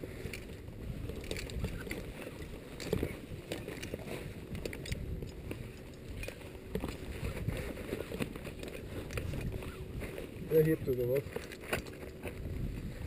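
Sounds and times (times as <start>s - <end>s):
climbing gear clinking: 0.0s - 12.7s
wind rumble on microphone: 0.0s - 13.0s
crampons scraping on rock and snow: 0.4s - 13.0s.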